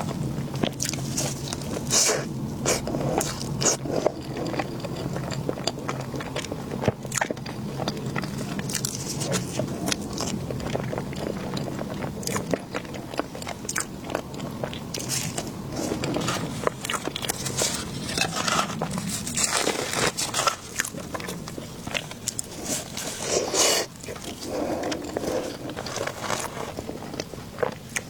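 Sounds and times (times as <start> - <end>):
biting and chewing food: 0.0 - 28.0.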